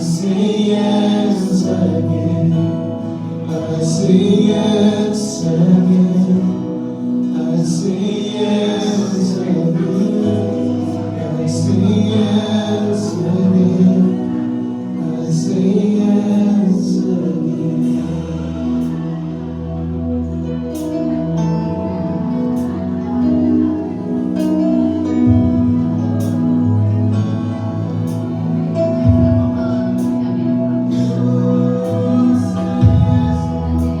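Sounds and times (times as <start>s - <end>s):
live band playing gospel: 0.0s - 34.0s
voices singing wordless lines: 0.0s - 34.0s.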